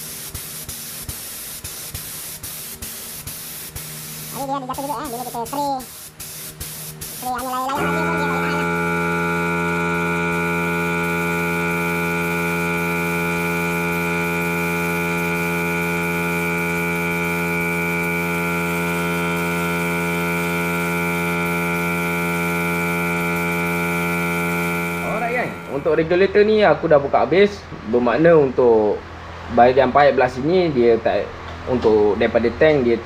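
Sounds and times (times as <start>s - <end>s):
air compressor running: 0.0s - 26.6s.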